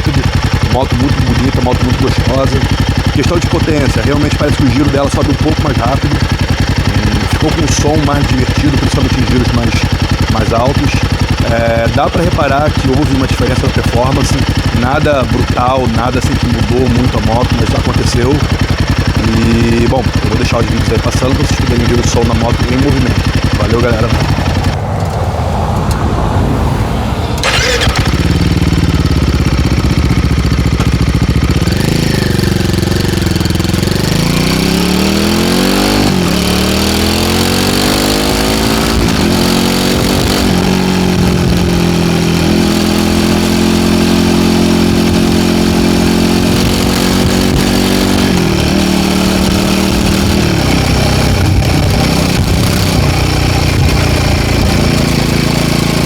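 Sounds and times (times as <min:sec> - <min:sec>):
motorcycle engine revving: 0:00.0 - 0:56.0
sharp exhaust crack: 0:00.0 - 0:56.0.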